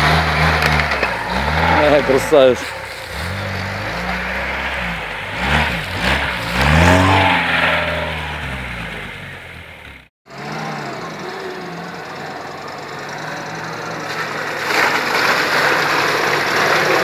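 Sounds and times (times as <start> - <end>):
car engine revving: 0.0 - 17.0
off-road vehicle engine running: 0.0 - 17.0.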